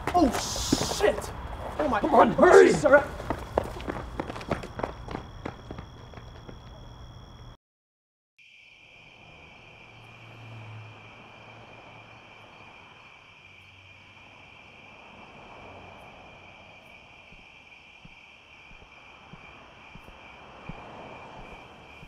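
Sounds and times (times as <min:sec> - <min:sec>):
distant traffic hum: 0:00.0 - 0:07.5, 0:08.8 - 0:22.0
insect trill: 0:00.0 - 0:07.6, 0:08.4 - 0:22.0.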